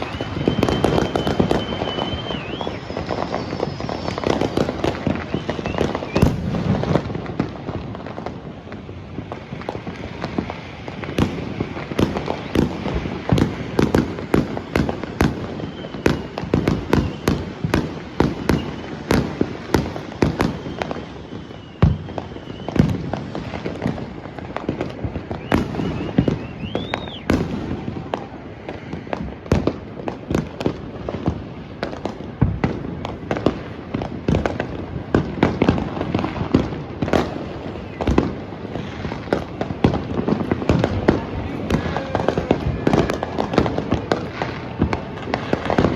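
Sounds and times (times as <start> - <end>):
firework whistles: 0.0 - 45.9
fireworks bangs and crackling: 0.0 - 45.9.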